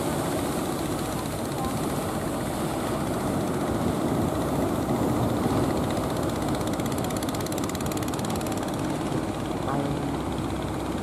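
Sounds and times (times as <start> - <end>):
boat engines running: 0.0 - 11.0
waves rushing: 0.0 - 11.0.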